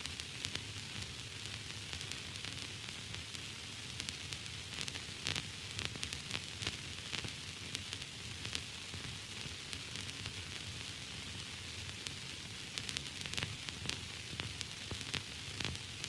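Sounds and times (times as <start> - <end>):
crackles and pops: 0.0 - 16.0
static hiss: 0.0 - 16.0.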